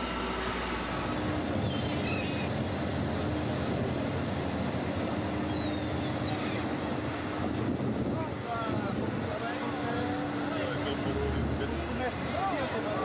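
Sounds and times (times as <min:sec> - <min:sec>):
boat engine rumble: 0:00.0 - 0:13.0
rushing water: 0:00.0 - 0:13.0.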